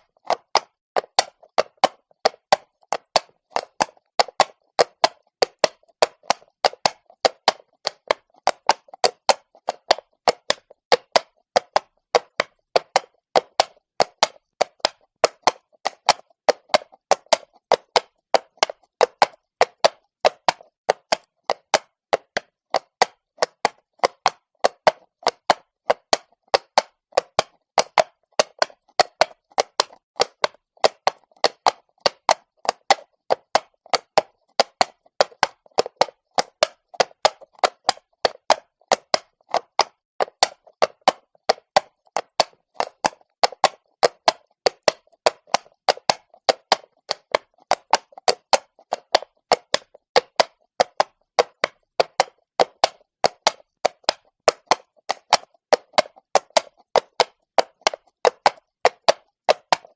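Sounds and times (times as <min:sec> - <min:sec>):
horse hooves on cobblestones: 0:00.0 - 0:59.9.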